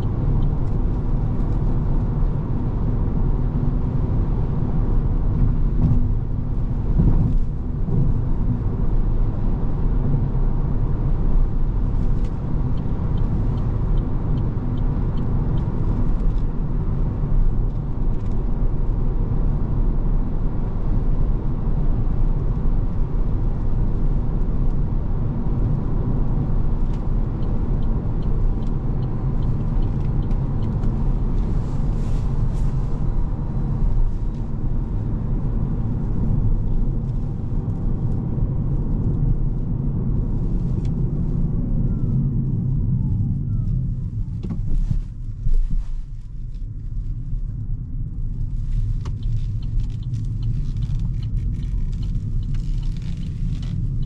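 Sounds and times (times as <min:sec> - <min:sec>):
tyre and road rumble: 0:00.0 - 0:54.0.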